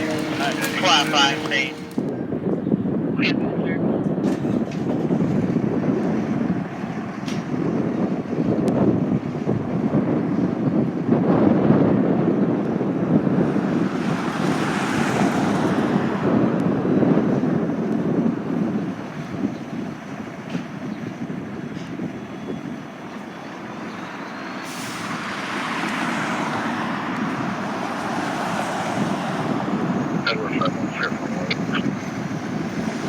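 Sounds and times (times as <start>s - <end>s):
heavy vehicle engine: 0.0s - 2.8s, 4.1s - 33.0s
road noise: 0.0s - 33.0s.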